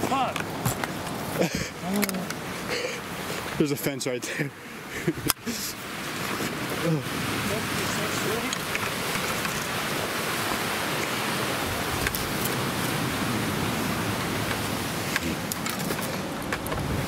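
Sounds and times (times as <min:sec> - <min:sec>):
fast-flowing creek rushing: 0:00.0 - 0:17.0.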